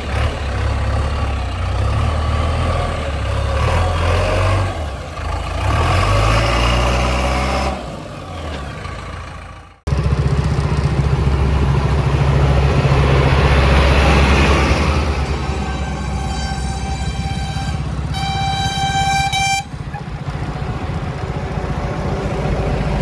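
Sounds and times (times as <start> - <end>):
heavy diesel engine running: 0.0 - 23.0
loud diesel engine running: 0.0 - 23.0.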